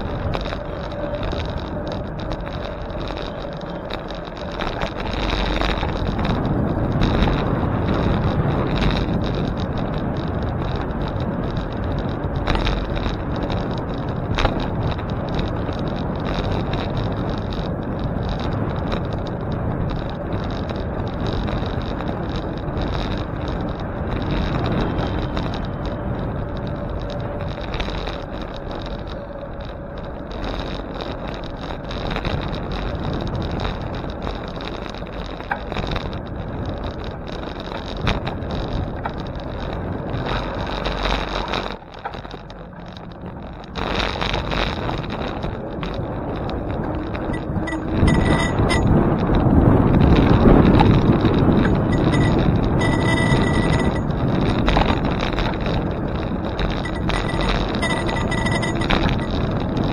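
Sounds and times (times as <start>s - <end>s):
bicycle road rumble: 0.0s - 59.9s
wind on microphone: 0.0s - 59.9s.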